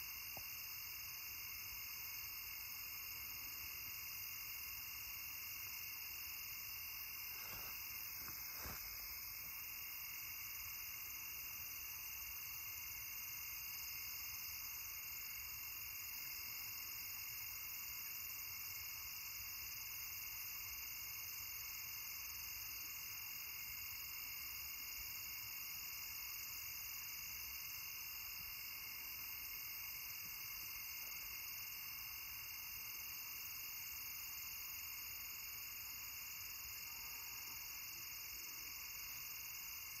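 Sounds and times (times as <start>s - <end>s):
night insects trilling: 0.0s - 40.0s.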